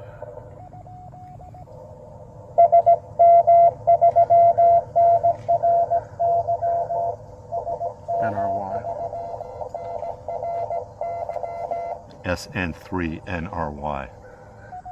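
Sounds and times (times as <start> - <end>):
morse code tone: 0.0 - 1.8, 2.6 - 14.9
receiver hiss: 0.0 - 13.8.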